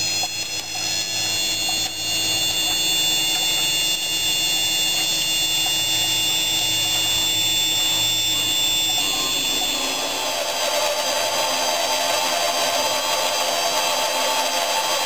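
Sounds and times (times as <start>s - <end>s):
high-pitched grinding whine: 0.0s - 15.0s.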